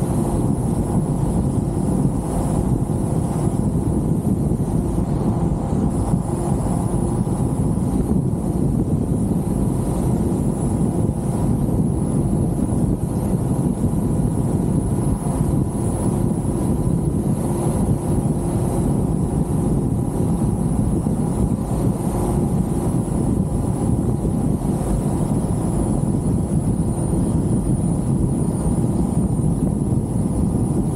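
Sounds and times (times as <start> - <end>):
car engine and road noise: 0.0 - 30.9
faint high whine: 0.0 - 30.9
wind buffeting microphone: 0.0 - 30.9.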